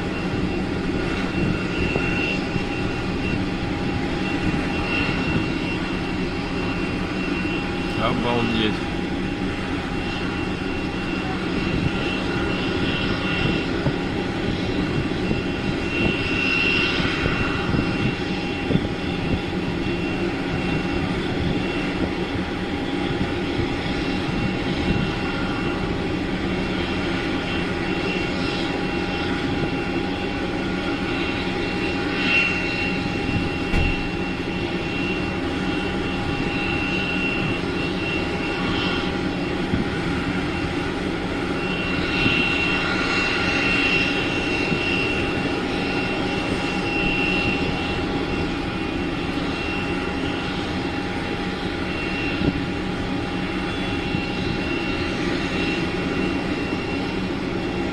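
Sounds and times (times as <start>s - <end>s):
jet engine roaring with high whine: 0.0s - 57.9s.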